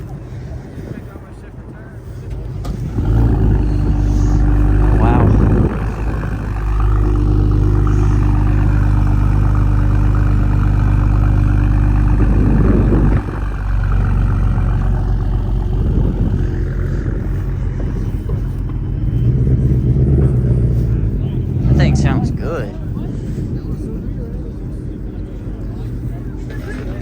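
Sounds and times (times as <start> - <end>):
car engine droning through exhaust: 0.0 - 27.0.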